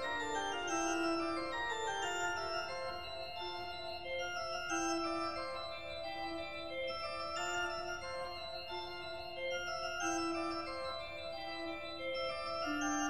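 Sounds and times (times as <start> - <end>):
organ-like music: 0.0 - 13.0.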